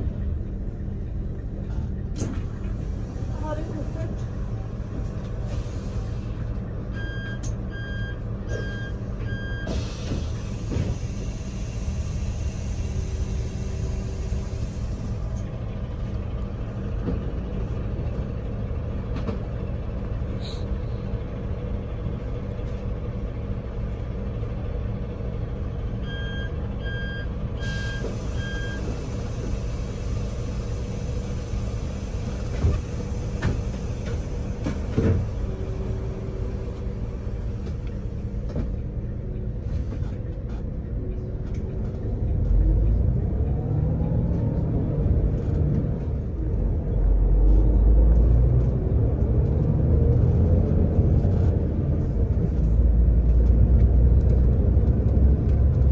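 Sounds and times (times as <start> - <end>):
vehicle engine and road rumble: 0.0 - 55.9.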